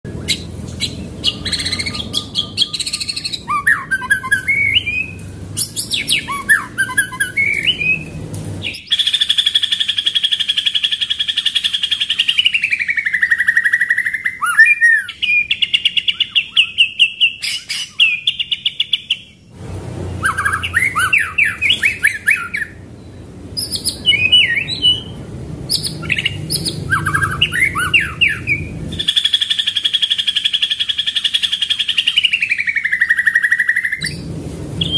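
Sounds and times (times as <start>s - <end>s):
songbird singing trills: 0.1s - 19.5s, 20.1s - 34.9s.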